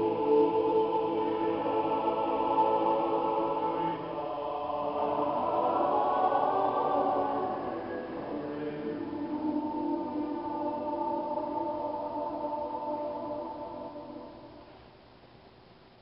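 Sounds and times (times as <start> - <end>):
church choir singing: 0.0 - 14.7.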